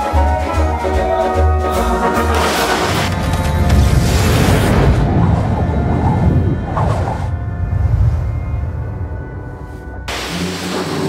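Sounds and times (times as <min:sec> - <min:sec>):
dark ominous film score: 0:00.0 - 0:11.0.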